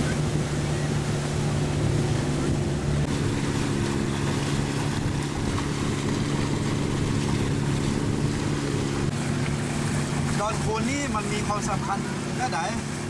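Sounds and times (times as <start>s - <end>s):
boat engine droning: 0.0s - 13.0s
water and wind hiss: 0.0s - 13.0s.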